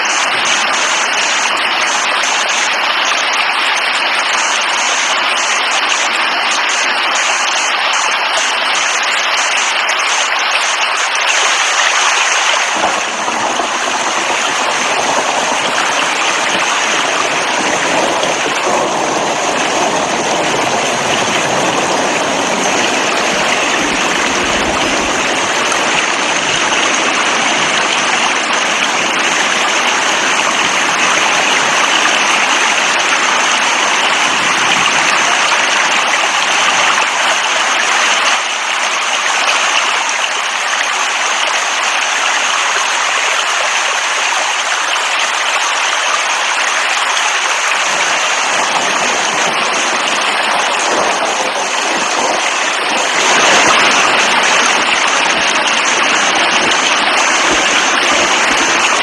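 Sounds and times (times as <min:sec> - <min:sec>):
rushing water hiss: 0:00.0 - 0:59.0.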